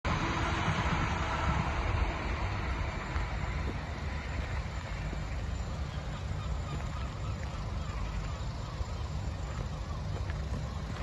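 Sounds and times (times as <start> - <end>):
vehicle rumble with hiss: 0.1 - 11.0.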